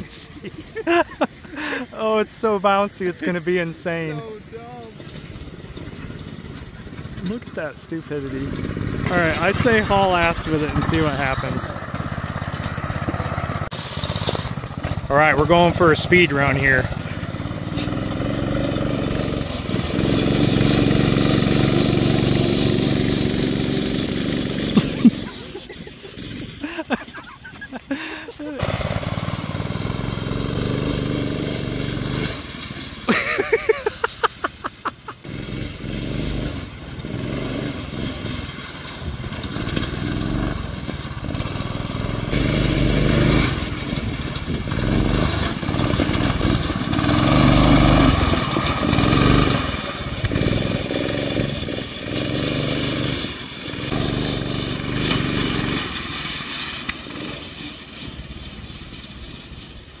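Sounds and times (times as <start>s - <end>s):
go-kart engine running hard: 0.0s - 60.0s.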